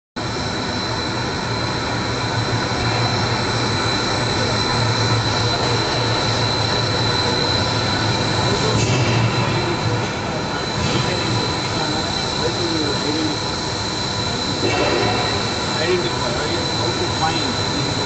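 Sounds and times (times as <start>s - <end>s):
machine mechanical drone: 0.2s - 18.0s
thin high whine: 0.2s - 18.0s.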